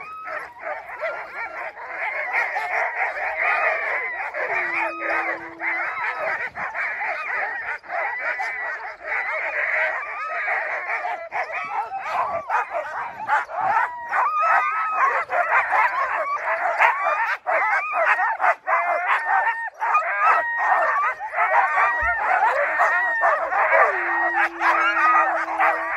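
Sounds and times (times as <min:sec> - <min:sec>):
sled dogs barking and whining: 0:00.0 - 0:25.9.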